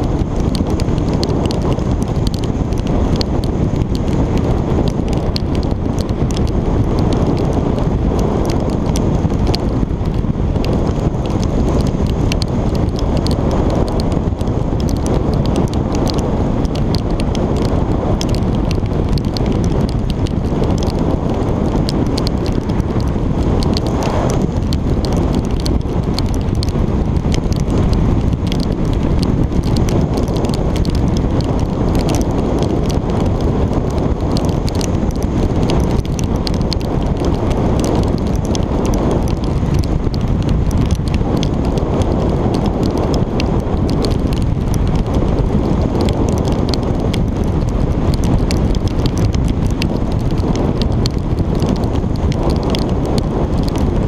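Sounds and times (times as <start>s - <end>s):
raindrops ticking on camera: 0.0s - 54.0s
wind and road noise: 0.0s - 54.0s.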